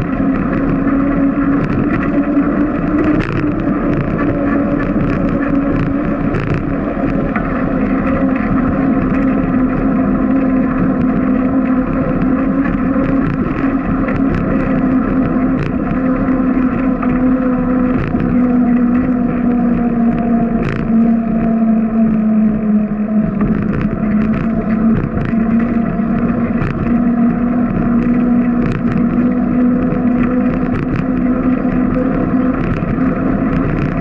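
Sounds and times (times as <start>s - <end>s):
bicycle wheels humming on concrete: 0.0s - 34.0s.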